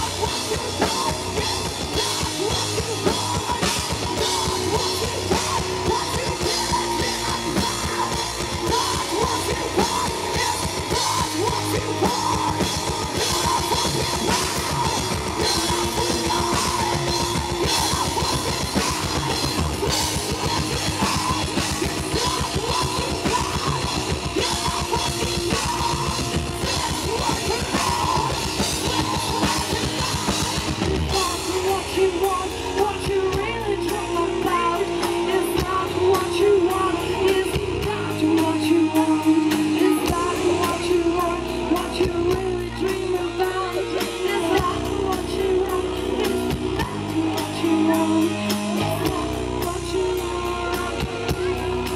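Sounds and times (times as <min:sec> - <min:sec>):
distorted electric guitars: 0:00.0 - 0:51.9
fast drumming: 0:00.0 - 0:51.9
woman singing: 0:00.0 - 0:51.9.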